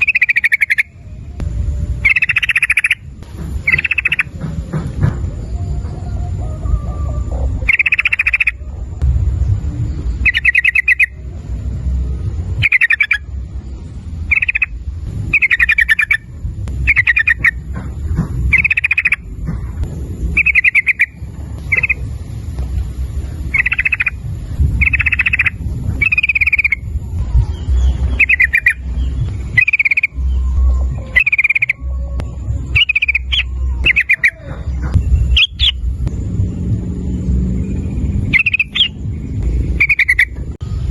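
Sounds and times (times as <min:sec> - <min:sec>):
bulbul calling: 0:00.0 - 0:09.0, 0:10.1 - 0:11.6, 0:12.5 - 0:36.2, 0:37.6 - 0:40.6
low rumble: 0:00.0 - 0:40.9.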